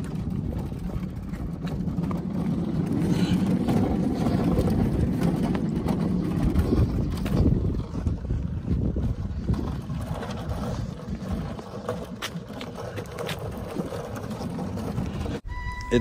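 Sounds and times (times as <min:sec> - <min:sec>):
wheels rolling on asphalt: 0:00.0 - 0:16.0.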